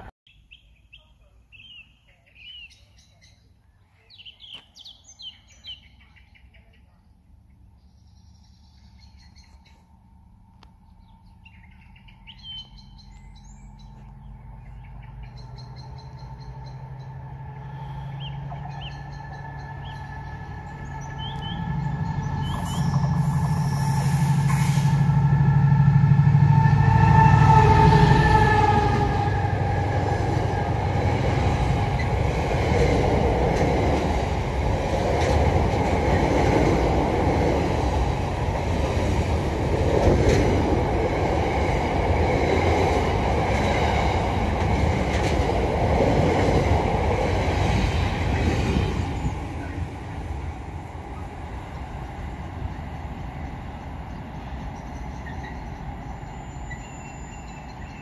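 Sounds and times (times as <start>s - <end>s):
birds chirping: 0.0s - 10.1s, 10.7s - 24.1s, 30.0s - 58.0s
rumble of train wagons: 4.0s - 58.0s
locomotive drone and whine: 7.2s - 58.0s.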